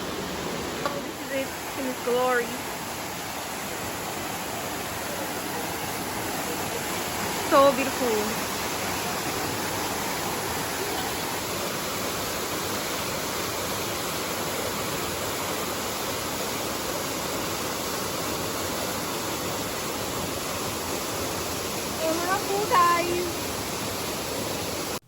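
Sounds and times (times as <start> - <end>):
waterfall pouring: 0.0 - 25.0.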